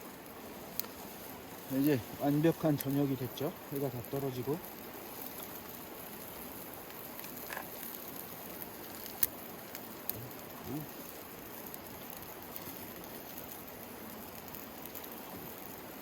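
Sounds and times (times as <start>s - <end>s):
charcoal fire crackles: 0.0s - 16.0s
chicken sizzling on grill: 0.0s - 16.0s.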